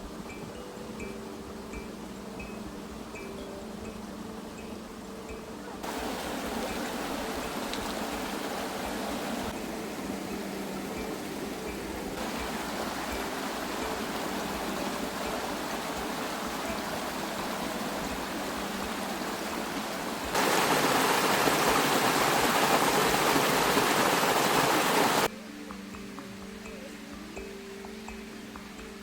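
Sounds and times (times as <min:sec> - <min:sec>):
running water rushing: 0:00.0 - 0:25.3.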